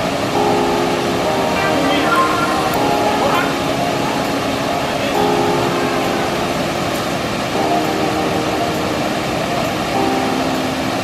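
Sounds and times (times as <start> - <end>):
background music chords: 0.0 - 11.0
waterfall rushing over rock: 0.0 - 11.0.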